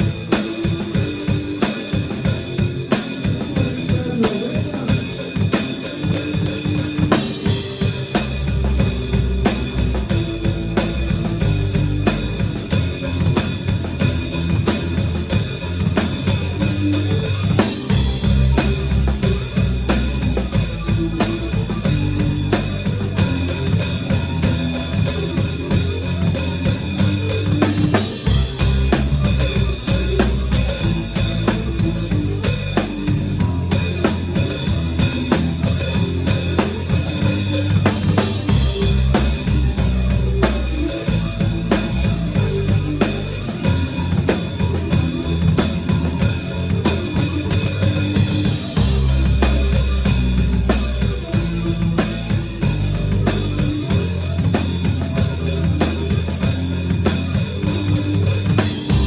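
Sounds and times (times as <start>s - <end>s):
bass drum and snare beat: 0.0s - 59.0s
live rock band playing: 0.0s - 59.0s
low bass notes: 0.0s - 59.0s.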